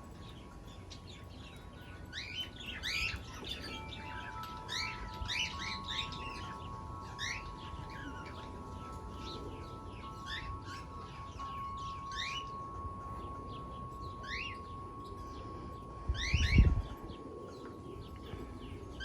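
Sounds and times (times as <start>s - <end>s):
lovebird chirping: 0.0s - 19.0s.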